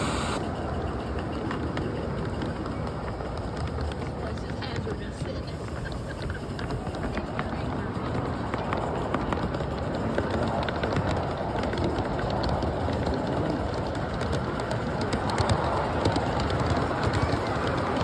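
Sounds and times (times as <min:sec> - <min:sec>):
model train wheels rumbling: 0:00.0 - 0:18.0.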